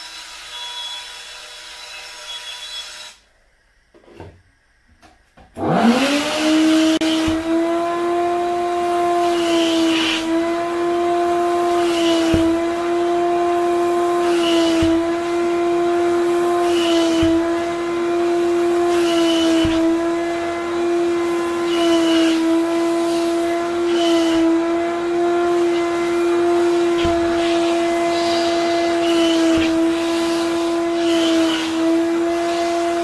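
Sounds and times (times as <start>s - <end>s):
vacuum cleaner motor whine: 5.6s - 33.0s.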